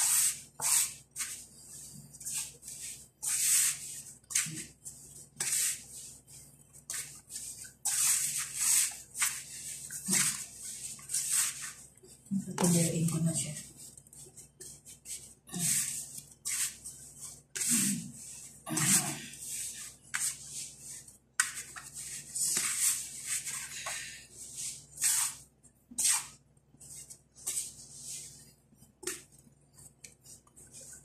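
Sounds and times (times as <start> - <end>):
dough kneaded in metal basin: 0.0 - 31.0.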